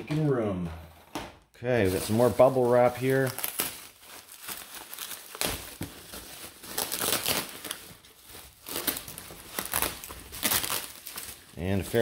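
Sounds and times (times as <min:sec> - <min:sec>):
bubble wrap crinkling: 0:01.8 - 0:12.0.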